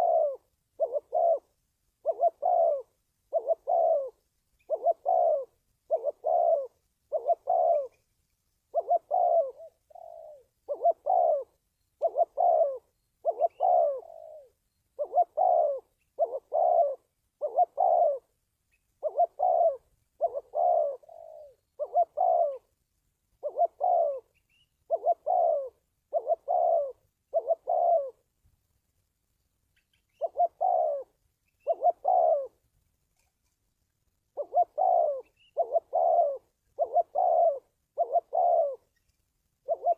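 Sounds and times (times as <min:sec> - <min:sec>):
dove cooing: 0:00.0 - 0:08.0, 0:08.7 - 0:18.4, 0:19.0 - 0:22.8, 0:23.4 - 0:28.3, 0:30.1 - 0:32.6, 0:34.2 - 0:39.9.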